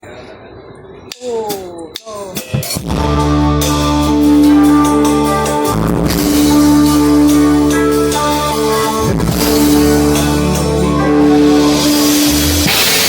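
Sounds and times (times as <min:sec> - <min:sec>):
drums: 0:01.2 - 0:13.0
electric guitar chords: 0:02.4 - 0:13.0.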